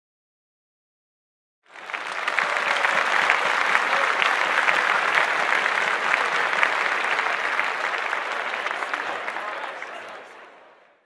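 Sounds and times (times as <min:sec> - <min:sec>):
crowd clapping: 0:01.7 - 0:11.0.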